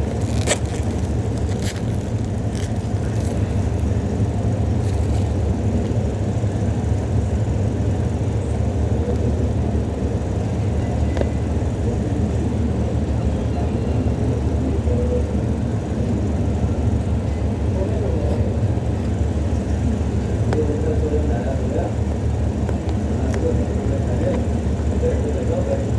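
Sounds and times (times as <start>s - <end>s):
low background rumble: 0.0s - 25.9s.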